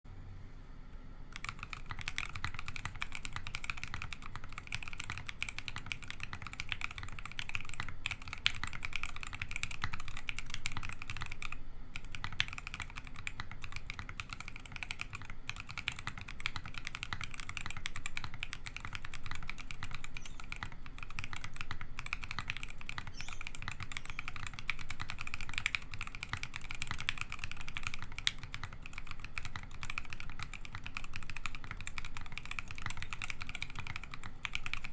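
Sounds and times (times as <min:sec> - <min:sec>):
fast muted keyboard typing: 0:01.3 - 0:34.9.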